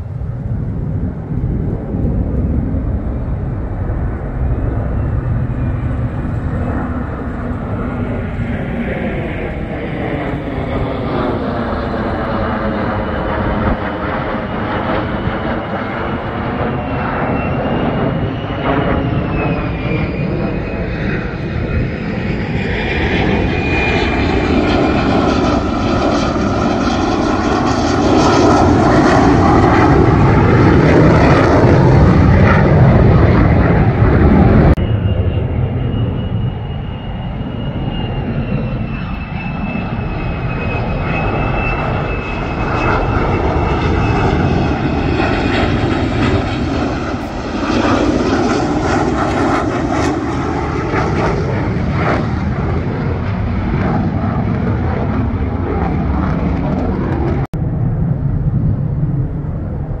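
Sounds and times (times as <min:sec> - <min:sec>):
fighter jet engines roaring: 0:00.0 - 1:00.0
high steady jet whine: 0:00.0 - 1:00.0.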